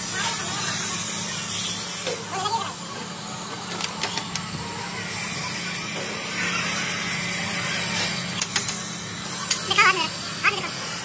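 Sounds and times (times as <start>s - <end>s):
workshop machinery humming: 0.0s - 11.0s.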